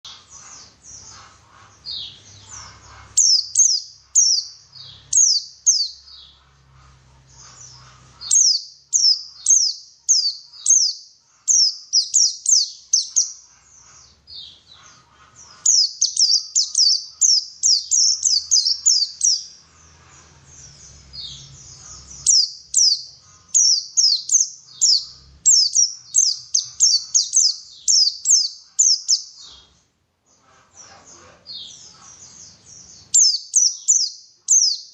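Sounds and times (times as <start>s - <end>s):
bird high chirps: 0.0s - 34.9s.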